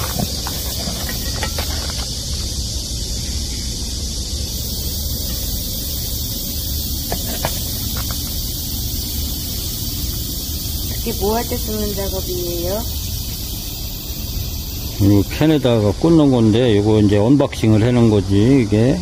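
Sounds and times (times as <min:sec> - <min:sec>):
low outdoor rumble: 0:00.0 - 0:19.0
steady high-pitched hiss: 0:00.0 - 0:19.0.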